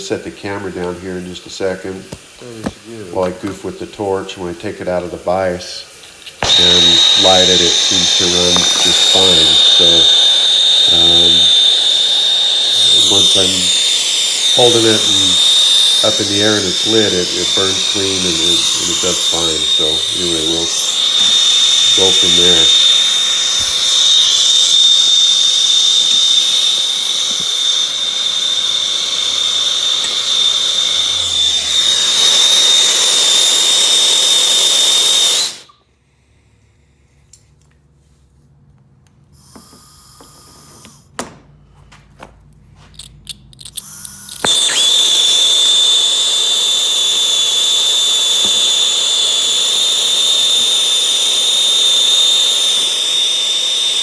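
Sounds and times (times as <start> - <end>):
gas torch hissing and whistling: 0.0 - 35.8, 43.8 - 54.0.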